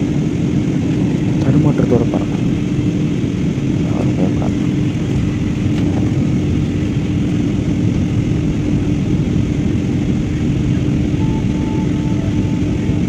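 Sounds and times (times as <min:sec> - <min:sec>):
jet engine and airflow rush: 0:00.0 - 0:13.0
steady low hum: 0:00.0 - 0:13.0.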